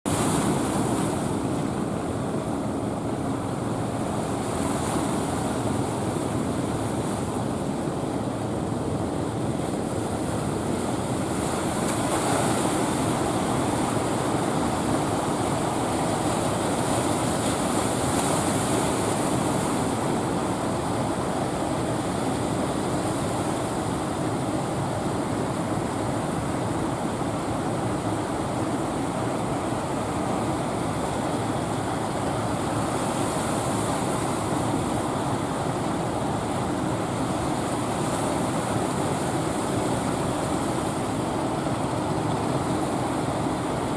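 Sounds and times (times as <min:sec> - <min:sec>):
breaking waves: 0:00.1 - 0:43.9.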